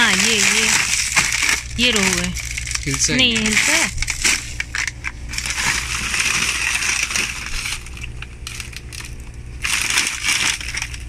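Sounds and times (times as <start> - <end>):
freezer hum: 0.0 - 11.0
frozen fish knocking together: 0.0 - 11.0
stiff plastic crinkling: 0.0 - 11.0.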